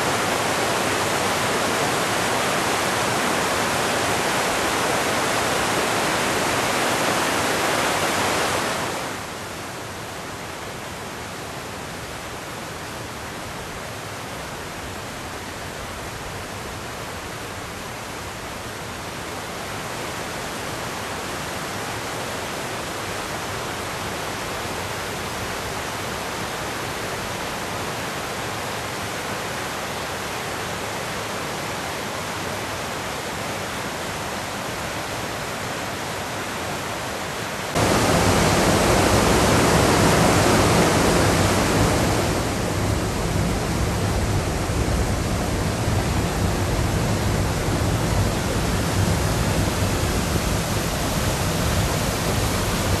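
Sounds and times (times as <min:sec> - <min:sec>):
creek rushing over rocks: 0:00.0 - 0:09.9, 0:19.0 - 0:53.0.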